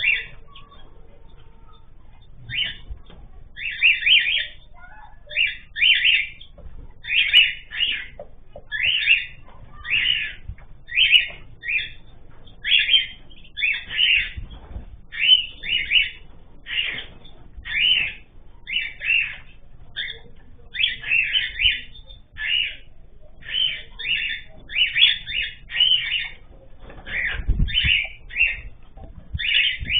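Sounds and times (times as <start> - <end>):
cage birds calling: 0.0 - 29.9.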